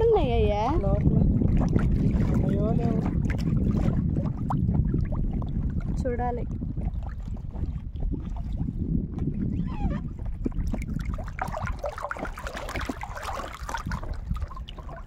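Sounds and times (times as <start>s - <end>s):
steady low rumble: 0.0s - 15.0s
water splashing around a raft: 0.0s - 15.0s.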